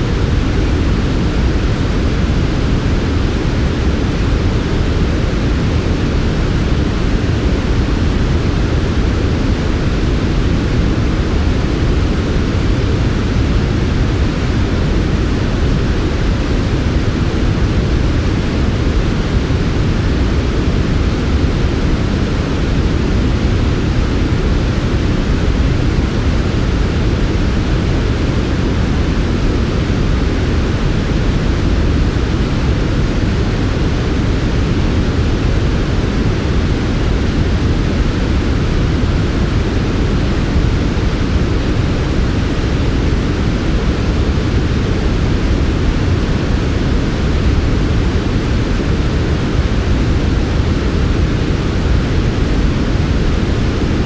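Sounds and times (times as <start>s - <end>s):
deep white noise rush: 0.0s - 54.0s.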